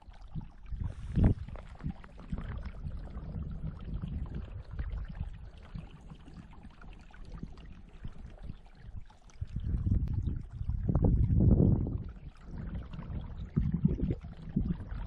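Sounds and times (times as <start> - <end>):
stream running: 0.0 - 15.0.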